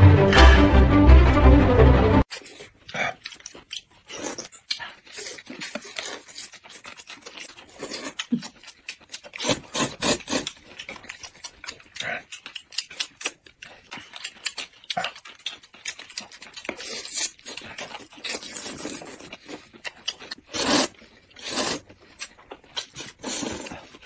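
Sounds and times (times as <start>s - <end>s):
noodles slurped: 2.3s - 15.3s, 16.4s - 24.0s
chewing: 2.3s - 24.0s.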